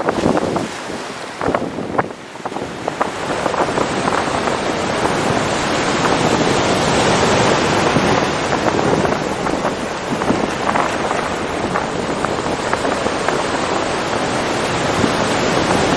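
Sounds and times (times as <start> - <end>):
ocean waves breaking: 0.0 - 15.9.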